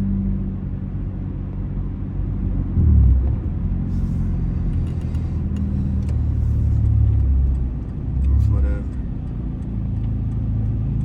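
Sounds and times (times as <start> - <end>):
car exhaust drone: 0.2 - 11.0.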